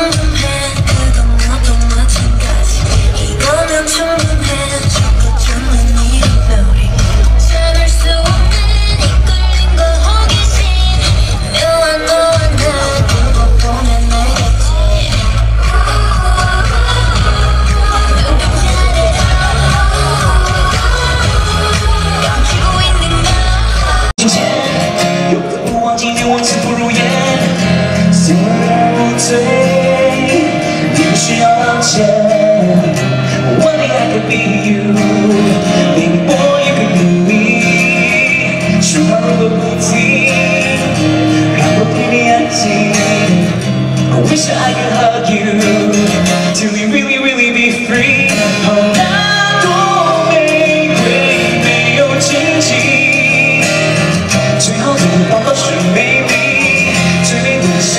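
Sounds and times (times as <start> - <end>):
instrumental backing music: 0.0 - 57.9
man singing into microphone: 0.0 - 57.9.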